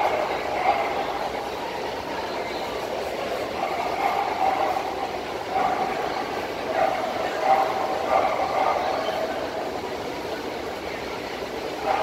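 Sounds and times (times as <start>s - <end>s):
faint indistinct voices: 0.0s - 12.0s.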